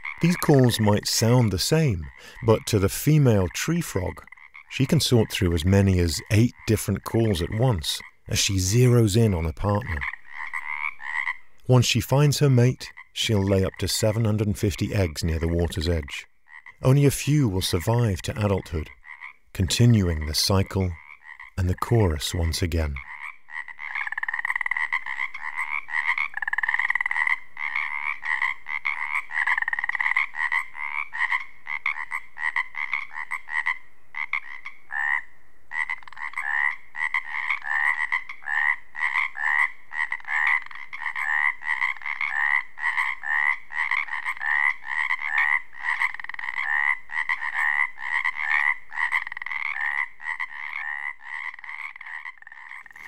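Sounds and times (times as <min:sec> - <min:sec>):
chorus of frogs calling: 0:00.0 - 0:53.0.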